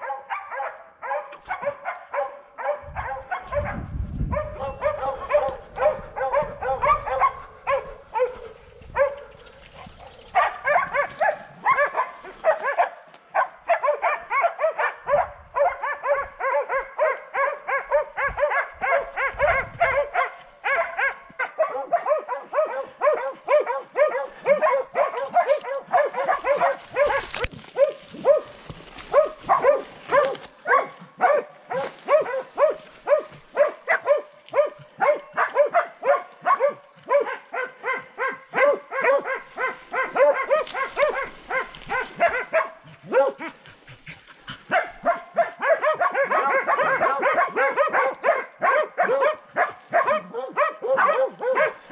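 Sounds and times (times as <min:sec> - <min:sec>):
dogs barking rapidly: 0:00.0 - 0:51.9.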